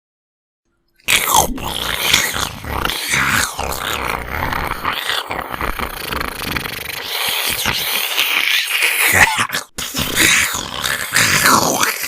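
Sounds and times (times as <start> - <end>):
harsh rasping creature sound: 1.0 - 12.0.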